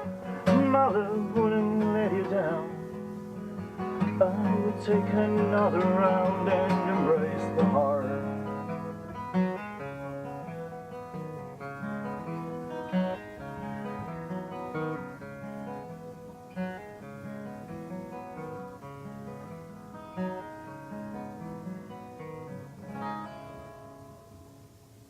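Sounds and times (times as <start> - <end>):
acoustic guitar picked and strummed: 0.0 - 25.0.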